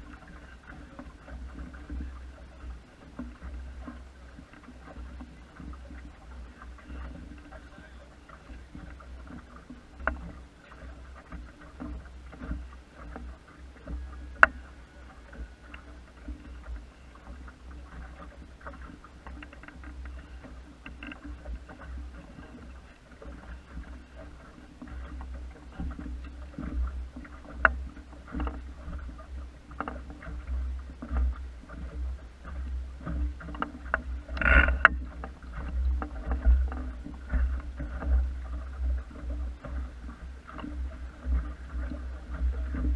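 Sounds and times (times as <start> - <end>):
boat clicks and knocks: 0.0 - 42.9
water splashing against hull: 0.0 - 42.9.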